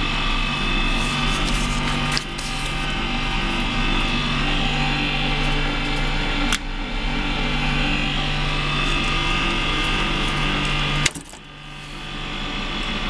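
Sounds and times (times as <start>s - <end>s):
electric punch motor hum: 0.0s - 13.0s.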